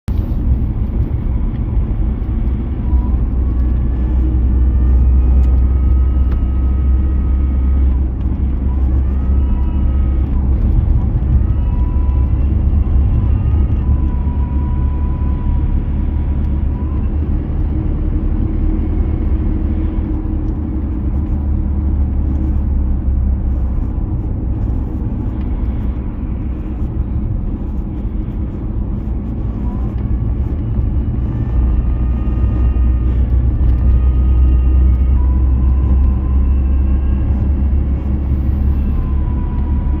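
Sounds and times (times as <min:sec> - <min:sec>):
diesel engine drone: 0:00.0 - 0:40.0.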